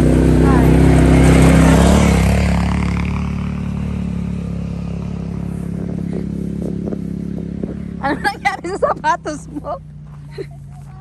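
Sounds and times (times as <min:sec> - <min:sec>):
atv engine passing: 0:00.0 - 0:11.0.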